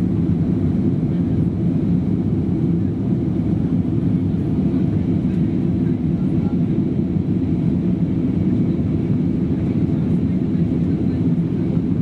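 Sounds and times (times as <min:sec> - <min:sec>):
airplane engines rumbling: 0:00.0 - 0:12.0.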